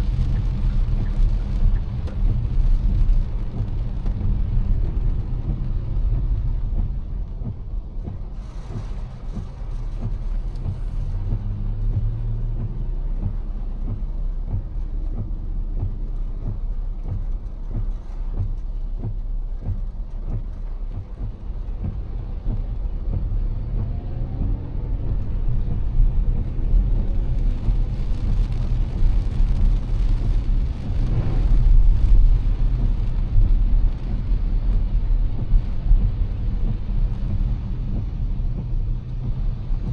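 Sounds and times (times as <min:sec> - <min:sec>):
low road rumble: 0:00.0 - 0:39.9
rain pattering on a car: 0:00.0 - 0:39.9
wet tyre hiss: 0:00.0 - 0:39.9.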